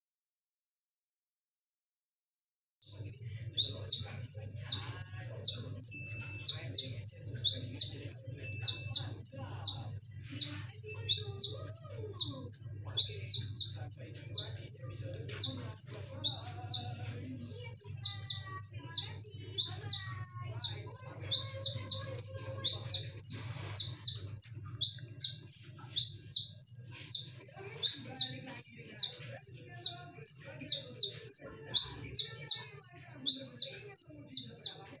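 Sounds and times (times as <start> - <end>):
bird chirping: 2.8 - 35.0.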